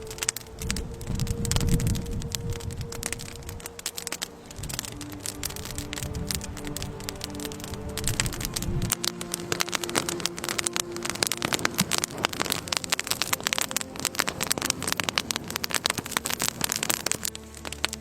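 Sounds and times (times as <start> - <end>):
rain pattering on a surface: 0.0 - 18.0.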